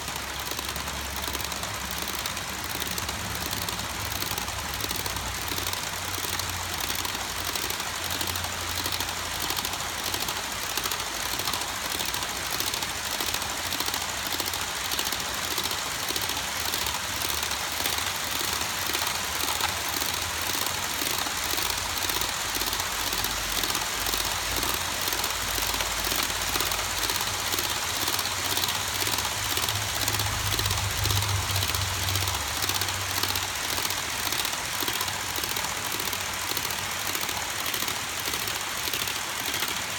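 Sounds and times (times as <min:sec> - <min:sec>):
model train wheels rattling: 0:00.0 - 0:39.9
rhythmic clicking of track: 0:00.0 - 0:39.9.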